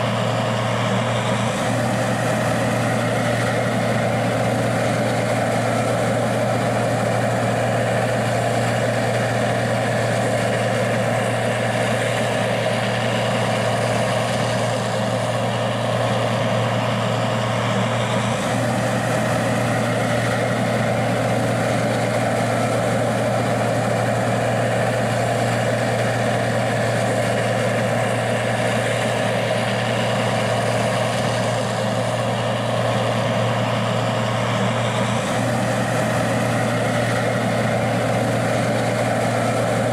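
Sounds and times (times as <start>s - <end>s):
combine diesel engine running: 0.0s - 39.9s.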